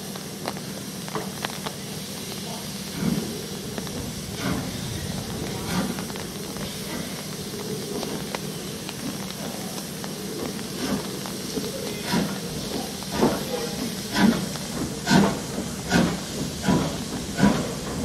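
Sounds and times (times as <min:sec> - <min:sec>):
steam locomotives hissing: 0:00.0 - 0:18.0.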